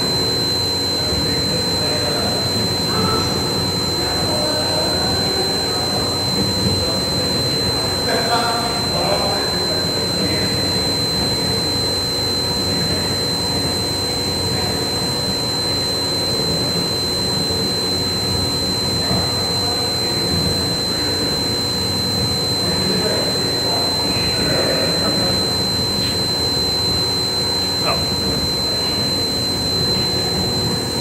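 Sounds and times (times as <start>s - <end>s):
machine running with high whine: 0.0s - 31.0s.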